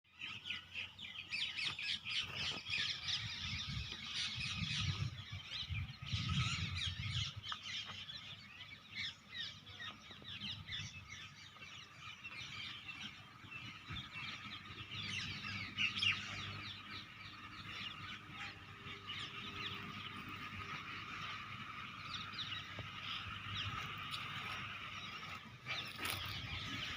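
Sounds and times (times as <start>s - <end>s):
many birds chirping: 0.1s - 26.9s.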